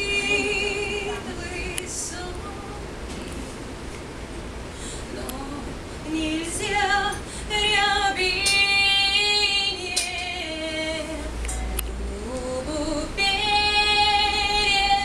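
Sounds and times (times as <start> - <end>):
woman singing unaccompanied: 0.0 - 3.5, 5.0 - 15.0.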